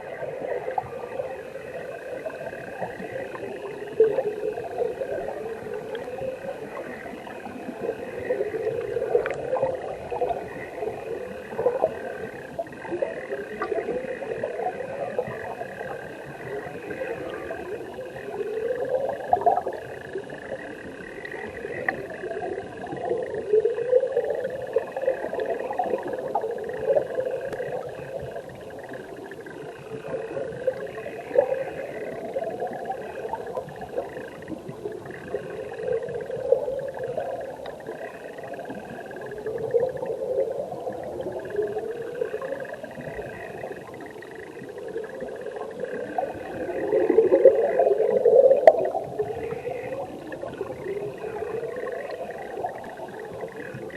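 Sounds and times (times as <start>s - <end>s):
underwater stream bubbling: 0.0s - 53.9s.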